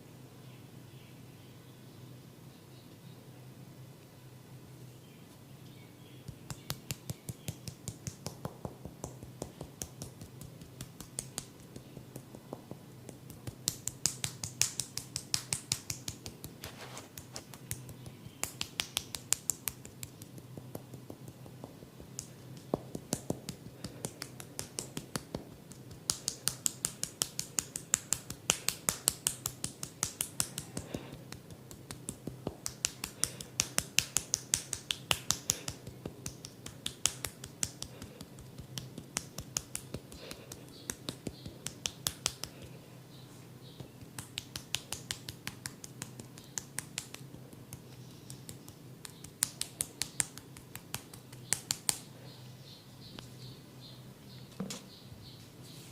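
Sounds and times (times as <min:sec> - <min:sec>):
hands snapping clicks on head: 0:06.3 - 0:42.8, 0:43.8 - 0:52.1.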